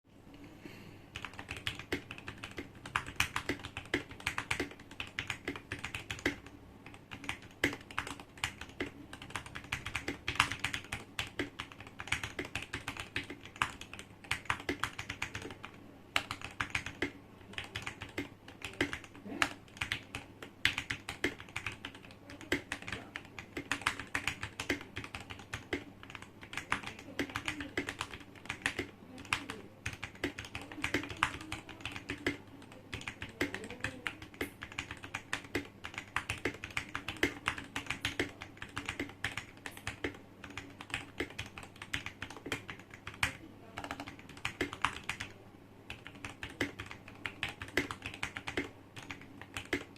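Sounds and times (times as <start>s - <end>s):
fast typing on mechanical keyboard: 1.2s - 49.9s.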